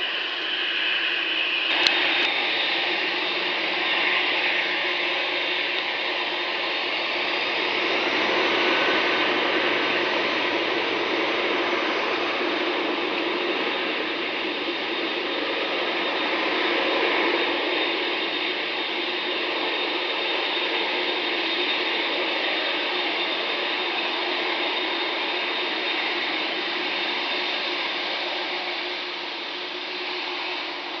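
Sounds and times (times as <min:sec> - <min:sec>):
faint high engine whine: 0:00.0 - 0:31.0
jet engines roaring: 0:00.0 - 0:31.0.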